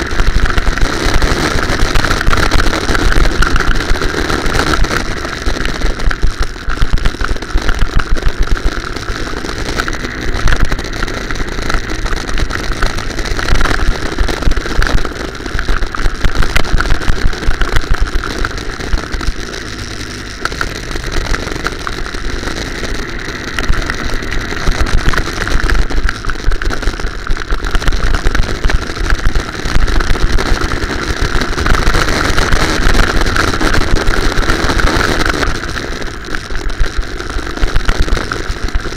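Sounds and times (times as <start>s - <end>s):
go-kart engine running: 0.0s - 38.9s.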